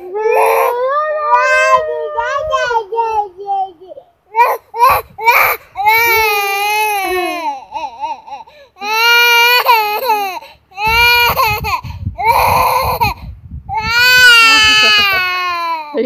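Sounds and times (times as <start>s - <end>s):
young child crying: 0.0s - 16.0s.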